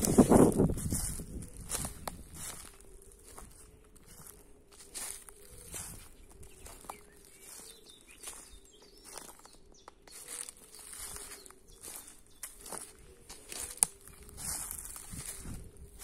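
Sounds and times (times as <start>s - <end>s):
footsteps crunching through dry leaves: 0.0s - 16.0s
faint bird chirps: 1.0s - 15.4s.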